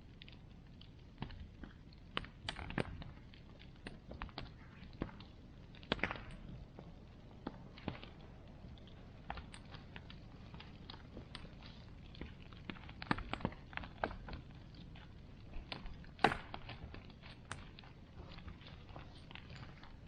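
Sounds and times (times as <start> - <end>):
bonfire crackling: 0.0 - 20.0
burning wood popping: 0.0 - 20.0
low fire hiss: 0.0 - 20.0.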